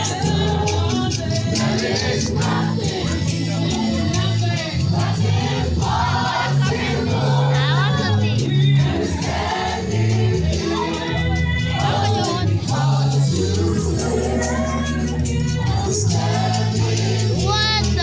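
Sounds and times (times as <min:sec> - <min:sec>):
bass line: 0:00.0 - 0:18.0
choir singing: 0:00.0 - 0:18.0
light percussion beat: 0:00.0 - 0:18.0.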